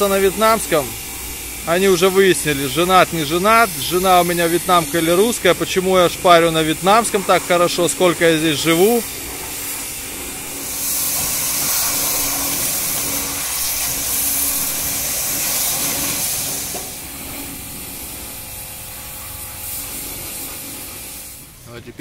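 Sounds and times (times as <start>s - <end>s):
pressure washer spraying water: 0.0s - 22.0s.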